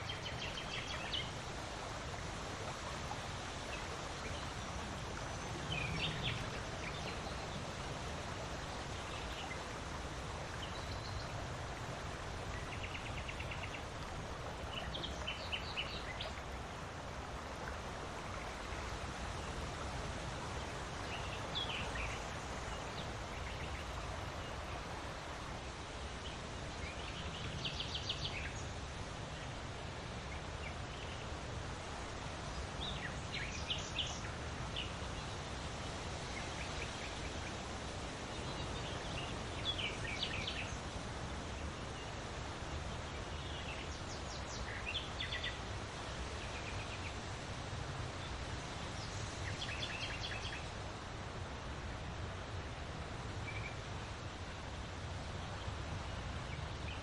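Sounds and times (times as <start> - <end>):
steady wind: 0.0 - 57.0.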